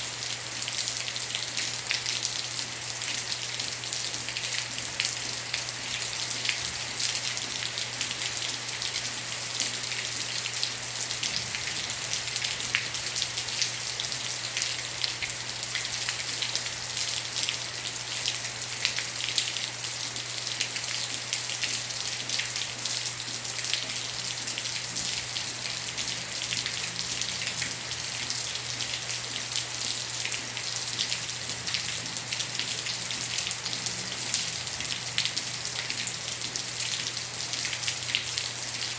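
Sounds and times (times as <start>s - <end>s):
raindrops ticking on a surface: 0.2s - 38.9s.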